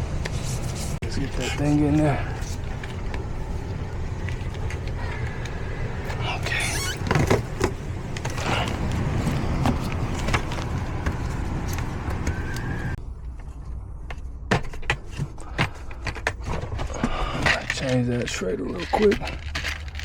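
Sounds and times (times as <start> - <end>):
sharp handling clicks and knocks: 1.2 - 20.0.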